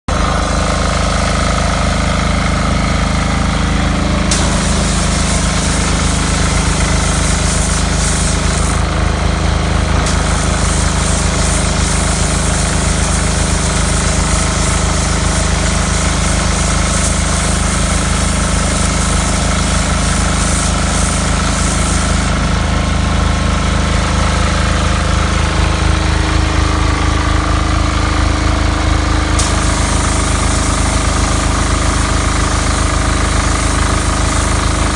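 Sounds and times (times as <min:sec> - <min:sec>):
pressure washer pump pulsing: 0:00.1 - 0:34.9.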